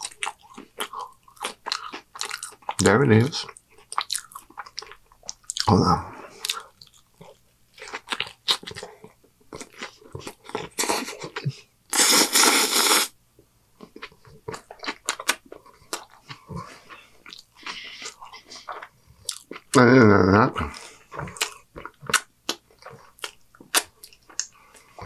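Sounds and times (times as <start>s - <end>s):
close chewing and crunching: 0.0s - 13.0s, 13.8s - 25.0s.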